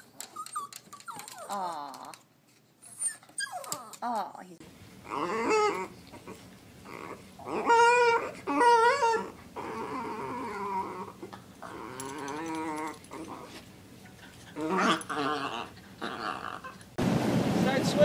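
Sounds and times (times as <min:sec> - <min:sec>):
dog whining: 0:00.0 - 0:13.6, 0:14.2 - 0:17.0.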